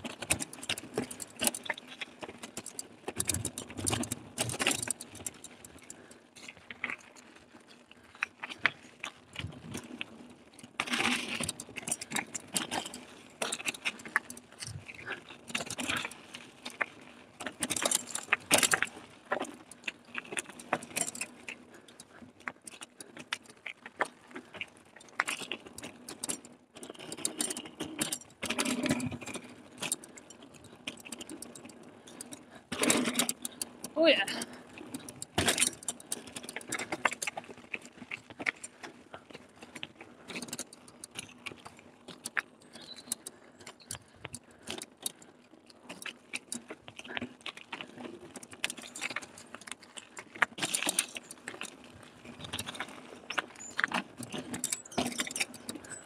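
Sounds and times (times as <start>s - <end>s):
mountain bike rattling on rough trail: 0.0s - 56.0s.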